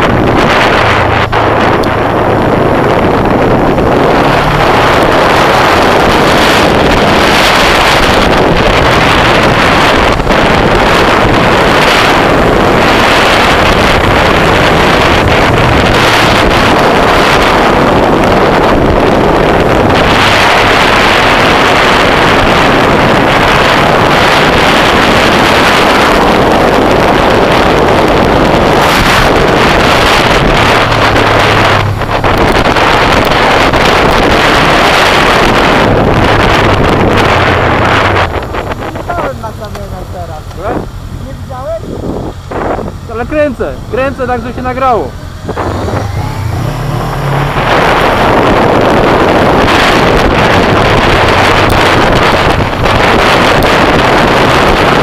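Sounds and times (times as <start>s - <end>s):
heavy wind noise: 0.0s - 55.0s
motorcycle engine running: 0.0s - 55.0s.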